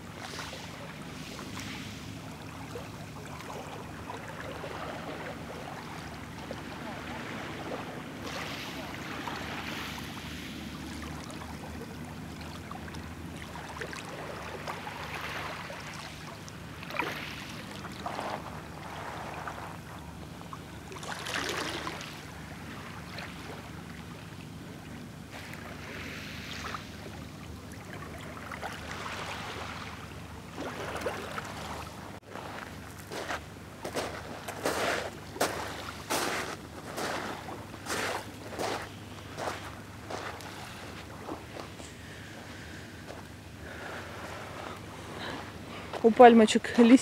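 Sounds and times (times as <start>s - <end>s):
sea waves washing ashore: 0.0s - 47.0s.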